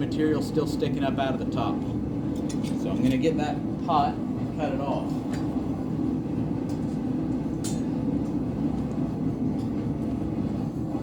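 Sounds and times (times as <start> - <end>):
forge roaring steadily: 0.0 - 11.0.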